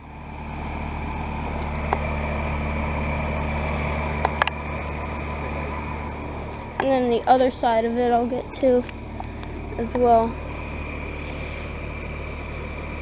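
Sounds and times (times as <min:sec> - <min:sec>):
heat pump unit humming: 0:00.0 - 0:13.0.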